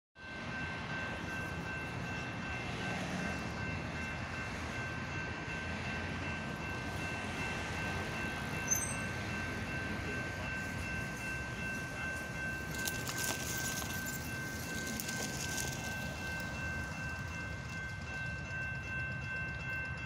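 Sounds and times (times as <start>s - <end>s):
level crossing bells ringing: 0.2s - 20.0s
traffic rumble: 0.7s - 20.0s.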